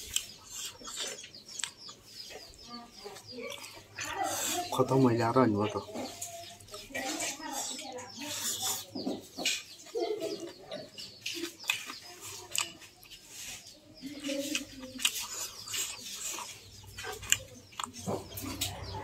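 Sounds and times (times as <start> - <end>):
wet chewing and lip-smacking: 0.0 - 4.6, 6.1 - 13.6, 14.2 - 19.0
birds calling: 0.0 - 19.0.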